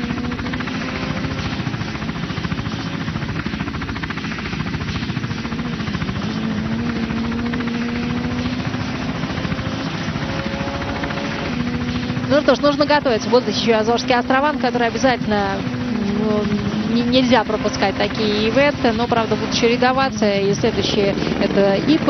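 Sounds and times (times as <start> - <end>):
helicopter engine hum: 0.0 - 22.0
helicopter rotor chop: 0.0 - 22.0.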